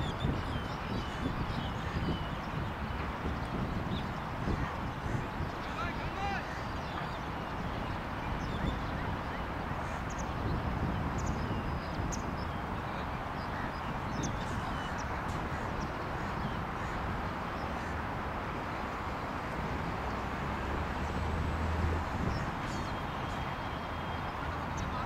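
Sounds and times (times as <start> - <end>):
distant road traffic: 0.0 - 25.0.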